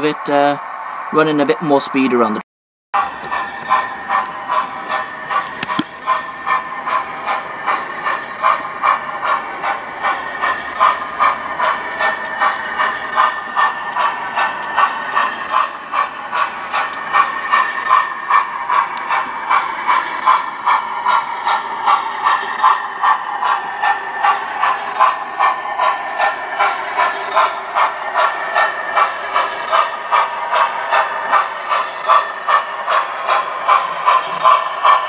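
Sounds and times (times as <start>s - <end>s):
model steam locomotive chuffs: 0.0s - 2.4s, 3.0s - 35.0s.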